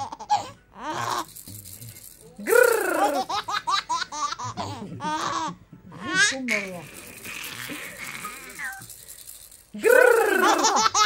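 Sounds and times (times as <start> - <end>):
baby laughing: 0.0 - 1.3, 2.4 - 8.9, 9.8 - 11.0.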